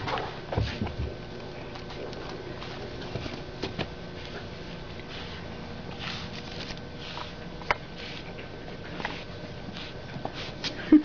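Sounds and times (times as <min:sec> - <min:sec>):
puppies sniffing and scrabbling: 0:00.0 - 0:10.8.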